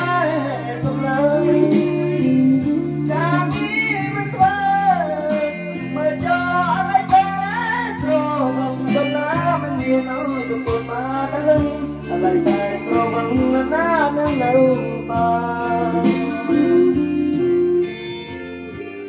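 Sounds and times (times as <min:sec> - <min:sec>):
man singing into microphone: 0:00.0 - 0:18.3
karaoke backing music: 0:00.0 - 0:19.0.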